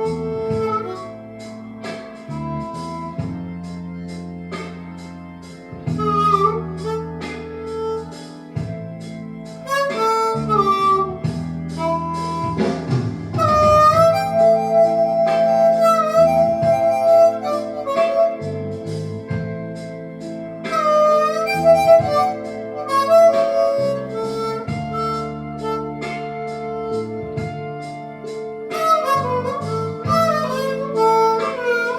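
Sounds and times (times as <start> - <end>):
bass line: 0.0 - 31.9
blues harmonica solo: 0.0 - 31.9
steady drum beat: 0.0 - 31.9.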